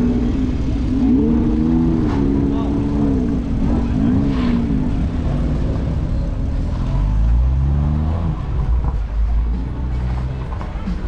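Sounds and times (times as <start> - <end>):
car engine pulling away: 0.0 - 11.0.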